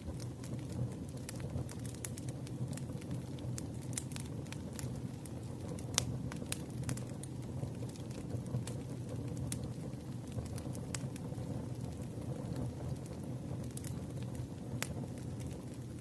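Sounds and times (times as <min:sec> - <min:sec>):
low fire rumble: 0:00.0 - 0:16.0
wood crackling and popping: 0:00.0 - 0:16.0.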